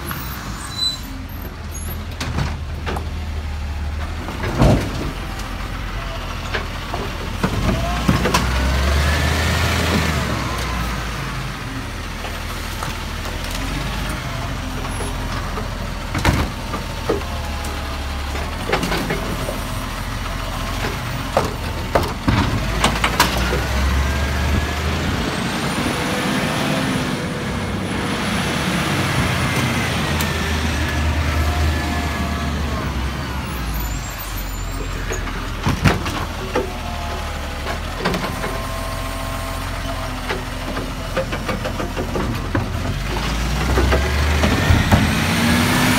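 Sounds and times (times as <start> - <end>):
garbage truck diesel engine: 0.0 - 45.9.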